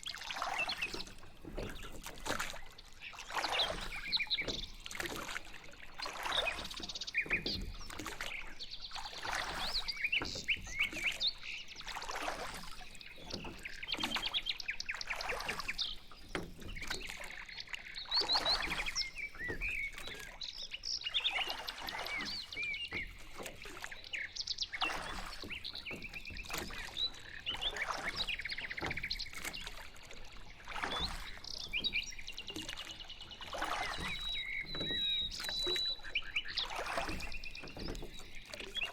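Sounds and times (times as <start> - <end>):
paddles swishing in water: 0.0 - 38.9
songbirds chirping: 0.0 - 38.9.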